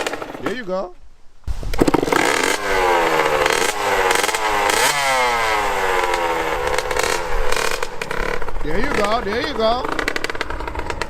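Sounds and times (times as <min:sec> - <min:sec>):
dirt bike engine revving: 0:01.5 - 0:11.0.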